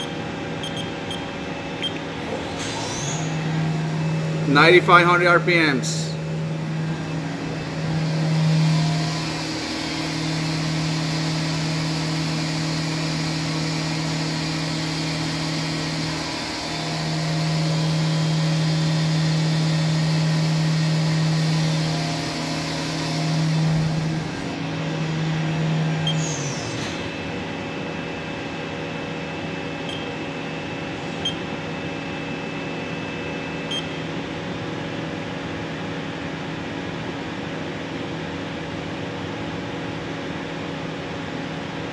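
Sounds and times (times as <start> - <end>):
machine spindle whirring: 0.0 - 34.6
steady machine hum: 0.0 - 41.9.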